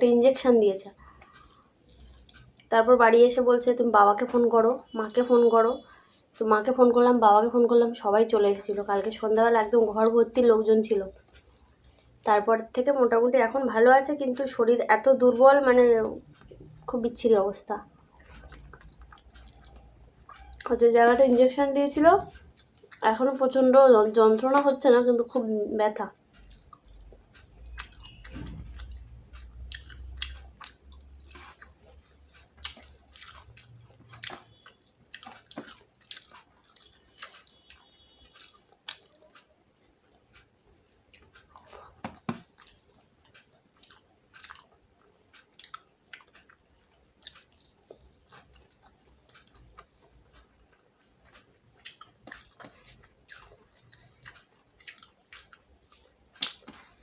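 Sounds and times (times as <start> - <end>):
mouth chewing food: 0.3 - 57.0.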